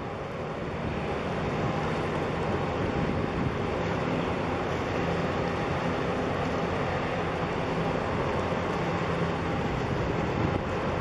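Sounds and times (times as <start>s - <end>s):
ship engine low drone: 0.0s - 11.0s.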